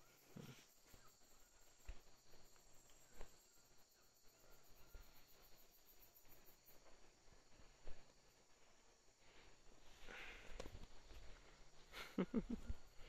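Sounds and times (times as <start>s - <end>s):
high pulsing insect trill: 0.0s - 9.2s, 11.4s - 13.0s.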